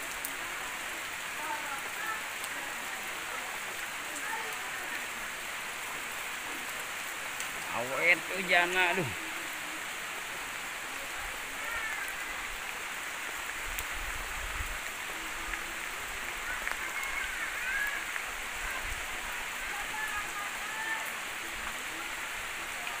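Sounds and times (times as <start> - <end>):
steady rain on leaves and roofs: 0.0 - 23.0.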